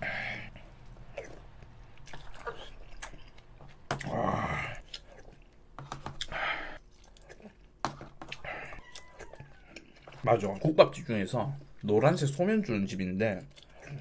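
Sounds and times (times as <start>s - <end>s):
person chewing and eating soup: 0.0s - 14.0s.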